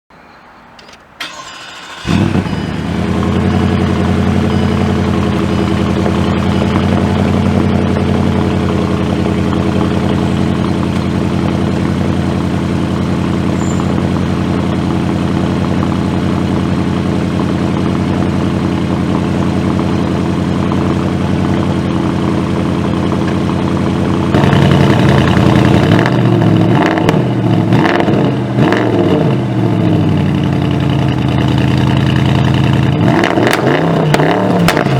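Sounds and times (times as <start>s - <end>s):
car engine starting and idling: 0.8s - 34.9s
engine revving in blips: 1.3s - 34.9s.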